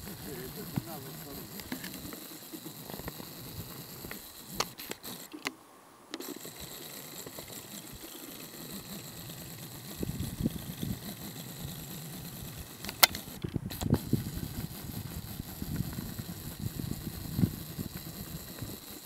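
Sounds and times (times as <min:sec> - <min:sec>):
faint open-air background noise: 0:00.0 - 0:19.0.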